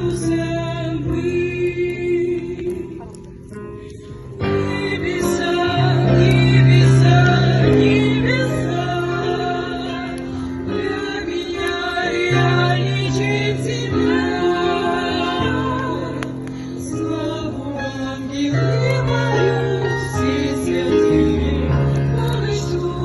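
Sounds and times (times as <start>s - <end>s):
group singing in harmony: 0.0s - 3.2s, 4.4s - 23.0s.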